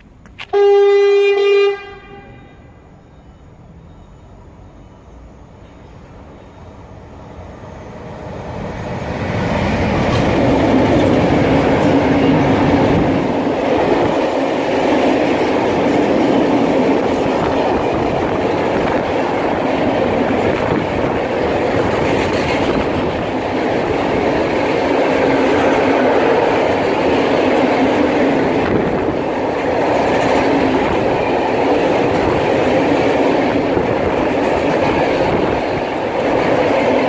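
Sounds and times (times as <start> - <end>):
electric locomotive passing: 0.0 - 37.0.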